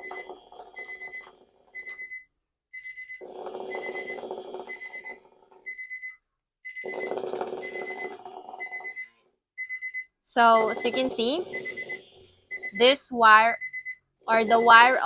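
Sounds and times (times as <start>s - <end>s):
alarm clock beeping: 0.0s - 15.0s.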